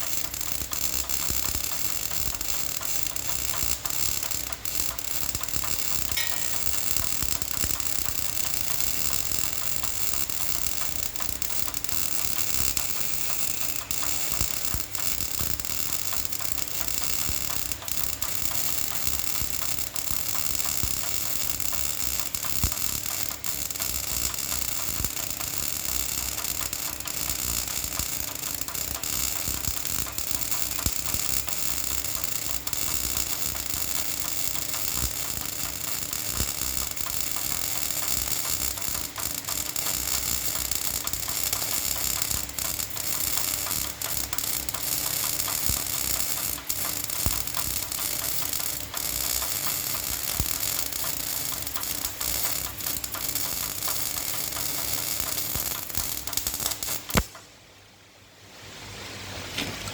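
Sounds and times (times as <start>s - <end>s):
arc welding crackle: 0.0s - 57.6s.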